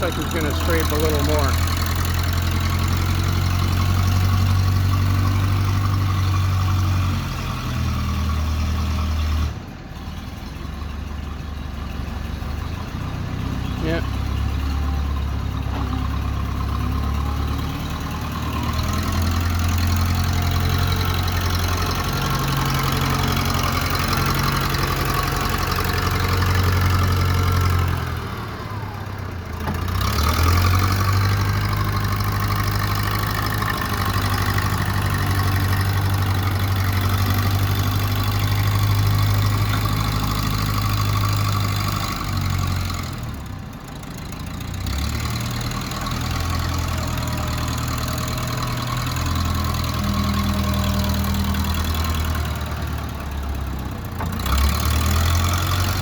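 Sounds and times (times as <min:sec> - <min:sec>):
backhoe loader engine running: 0:00.0 - 0:56.0.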